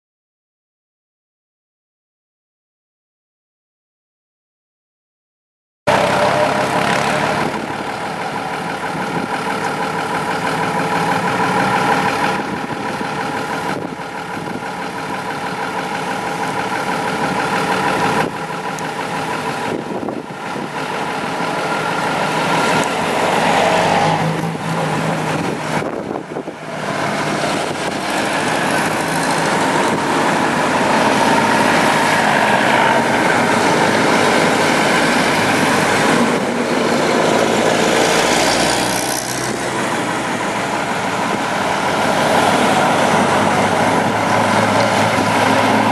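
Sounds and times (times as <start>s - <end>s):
truck engines driving past: 5.9s - 45.9s.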